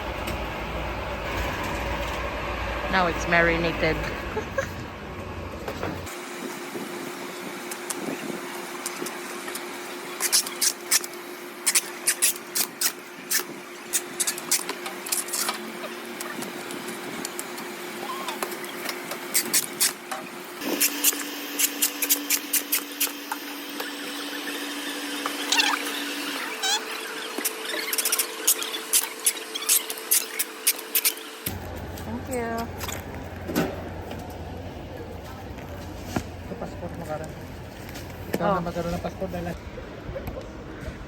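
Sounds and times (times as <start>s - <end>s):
machine motor hum: 0.0s - 38.6s.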